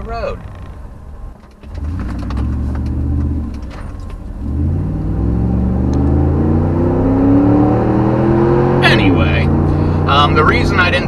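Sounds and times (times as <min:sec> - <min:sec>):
truck engine accelerating: 0:01.6 - 0:11.0.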